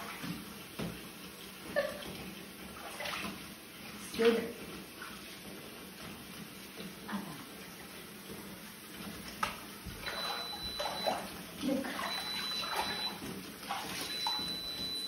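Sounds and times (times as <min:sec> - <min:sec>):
bathwater sloshing and splashing: 0:00.0 - 0:15.0.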